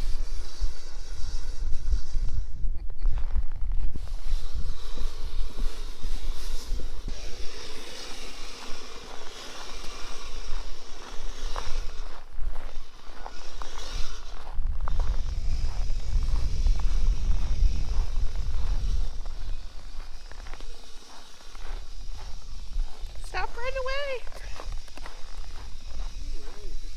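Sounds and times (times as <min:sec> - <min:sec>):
toy tracks crunching snow: 0:00.0 - 0:26.9
wind rumble on microphone: 0:00.0 - 0:26.9.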